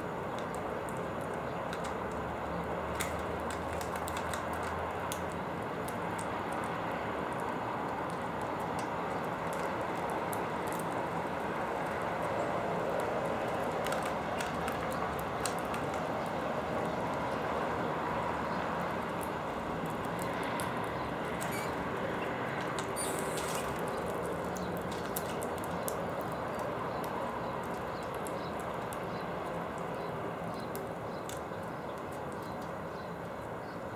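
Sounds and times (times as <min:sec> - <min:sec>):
steady background noise: 0:00.0 - 0:33.9
birds pecking at seed: 0:00.3 - 0:33.9.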